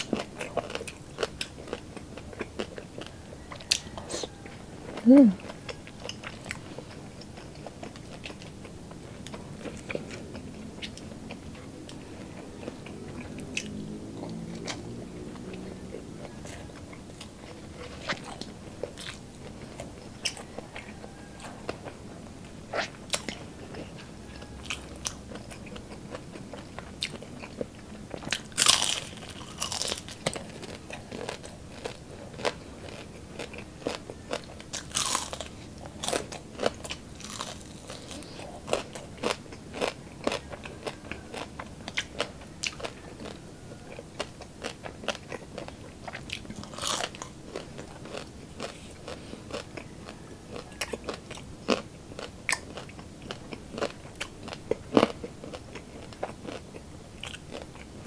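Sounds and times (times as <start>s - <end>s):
crunching and chewing crispy food: 0.0s - 58.0s.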